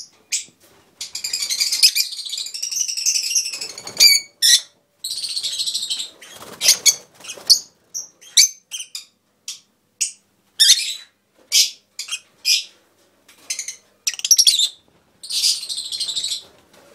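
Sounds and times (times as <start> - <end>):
lovebirds chirping and squawking: 0.0 - 12.7, 13.4 - 16.5.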